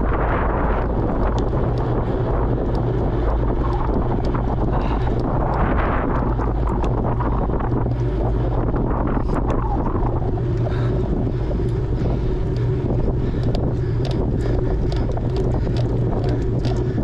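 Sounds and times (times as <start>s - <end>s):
wind rumbling on microphone: 0.0s - 17.0s
faint ticks: 0.6s - 17.0s.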